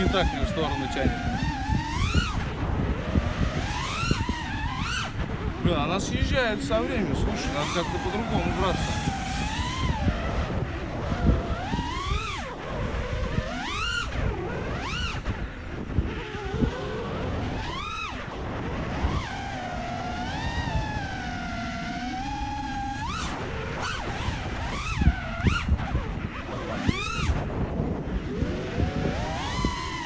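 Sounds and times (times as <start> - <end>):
drone motors and propellers whining: 0.0 - 30.0
low wind rumble: 0.0 - 30.0.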